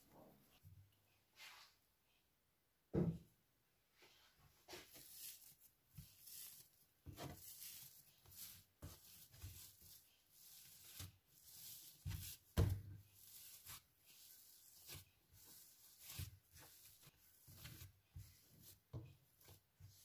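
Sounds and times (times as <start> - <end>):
hands kneading dough: 4.0 - 20.0.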